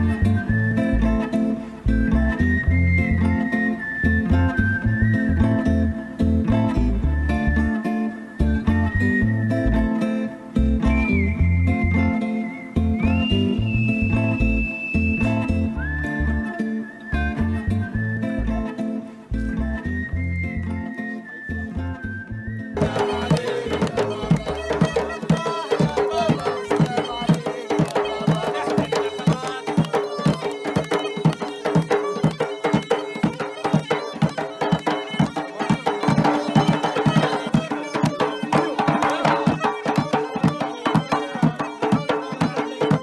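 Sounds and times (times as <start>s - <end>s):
folk music with hand drum: 0.0s - 16.4s, 22.8s - 43.0s.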